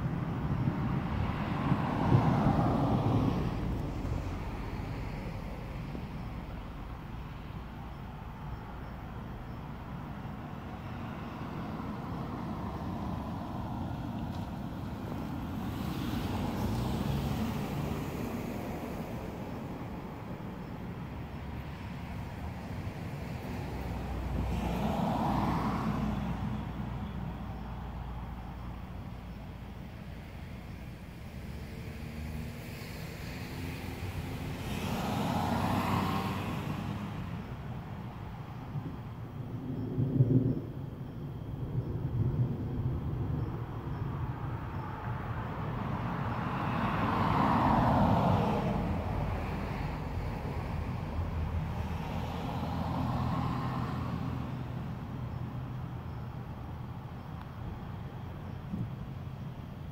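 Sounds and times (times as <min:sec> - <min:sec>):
vehicle passing with tyre hiss: 0:00.0 - 0:40.6, 0:41.7 - 0:59.9
outdoor background noise: 0:00.0 - 0:59.9.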